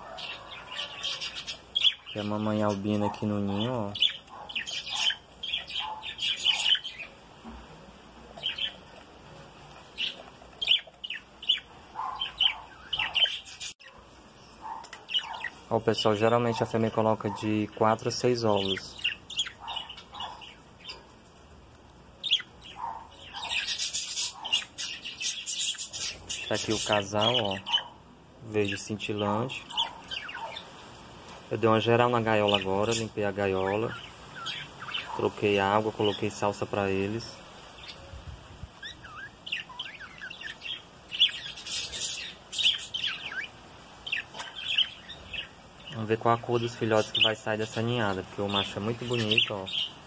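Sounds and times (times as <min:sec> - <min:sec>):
budgerigars chirping: 0:00.0 - 0:07.2, 0:08.4 - 0:08.9, 0:09.9 - 0:21.1, 0:22.2 - 0:30.8, 0:31.7 - 0:38.1, 0:38.8 - 0:50.0.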